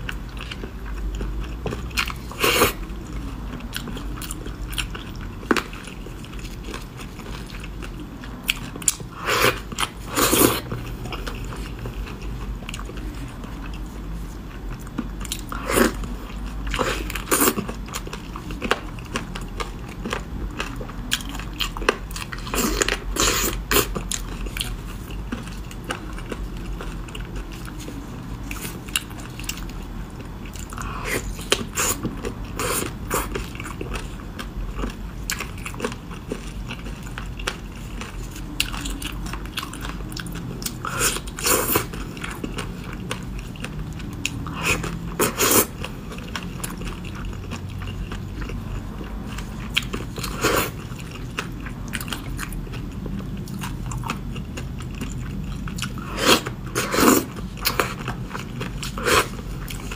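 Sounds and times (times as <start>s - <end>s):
person chewing wet food: 0.0s - 59.9s.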